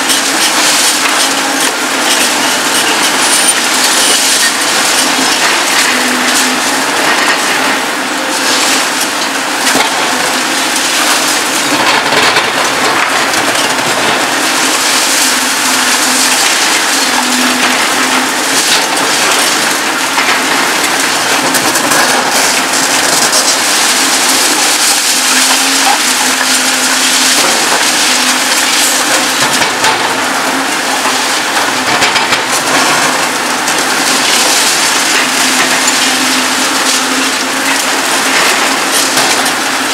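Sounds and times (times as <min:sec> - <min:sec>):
concrete crunching and cracking: 0:00.0 - 0:39.9
excavator engine hum: 0:00.0 - 0:39.9.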